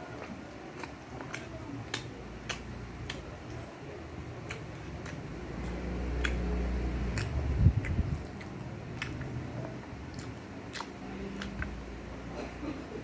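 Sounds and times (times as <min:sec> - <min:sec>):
person chewing with mouth clicks: 0:00.0 - 0:03.7, 0:04.4 - 0:11.9.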